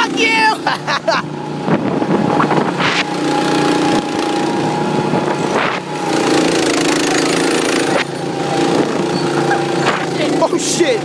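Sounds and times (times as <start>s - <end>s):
go-kart engine buzzing: 0.0s - 11.0s
rushes of noise: 1.0s - 11.0s.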